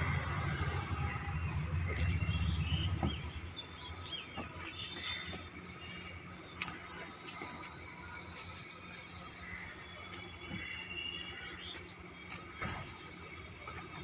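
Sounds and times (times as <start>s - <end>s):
birds chirping: 0.0s - 14.0s
low vehicle rumble: 0.0s - 14.0s.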